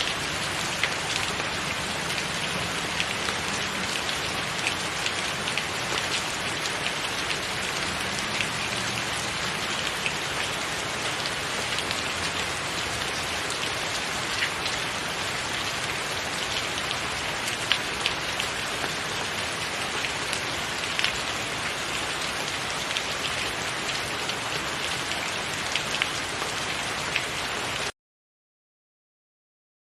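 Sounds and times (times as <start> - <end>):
rain on a tiled roof: 0.0 - 28.0.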